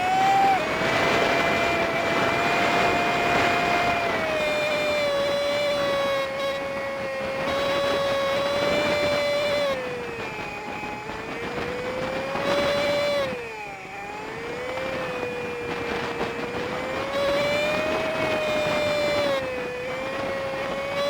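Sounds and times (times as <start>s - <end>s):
small motorcycle engine running: 0.0s - 21.0s
wind and road noise: 0.0s - 21.0s.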